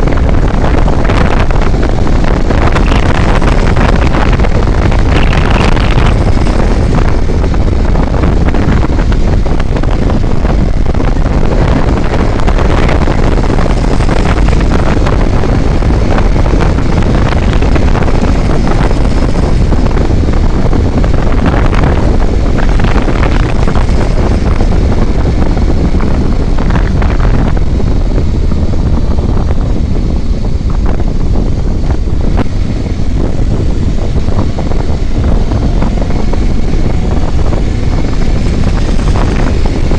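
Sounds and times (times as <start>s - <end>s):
vehicle engine and road noise: 0.0s - 39.9s
wind buffeting microphone: 0.0s - 39.9s.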